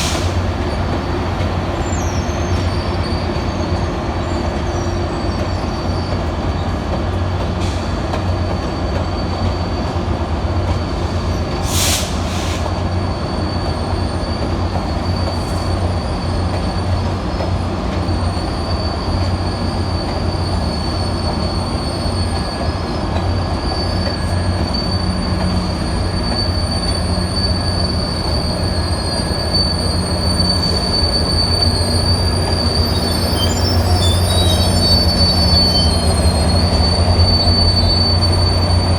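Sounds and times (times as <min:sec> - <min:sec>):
train rolling rumble: 0:00.0 - 0:38.9
train wheels squealing: 0:00.0 - 0:38.9.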